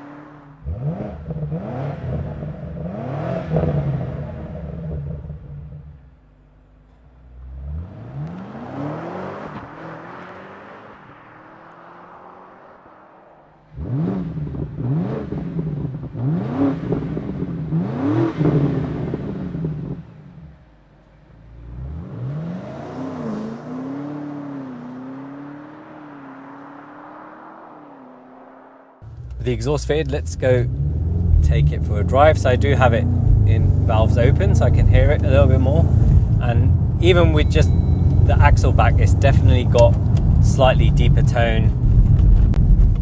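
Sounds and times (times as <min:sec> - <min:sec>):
car engine revving and idling: 0:00.0 - 0:43.0.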